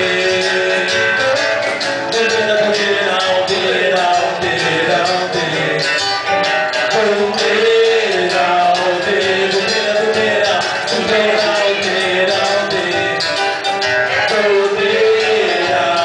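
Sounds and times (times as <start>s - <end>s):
cajon beat: 0.0s - 16.0s
electric guitar: 0.0s - 16.0s
strummed acoustic guitar: 0.0s - 16.0s.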